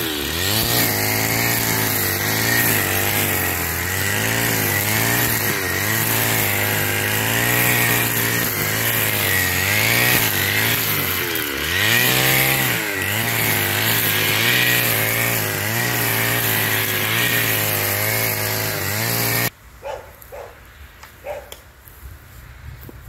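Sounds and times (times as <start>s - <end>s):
brushcutter engine high revs: 0.0s - 19.5s
trimmer line thrashing grass: 0.0s - 19.5s.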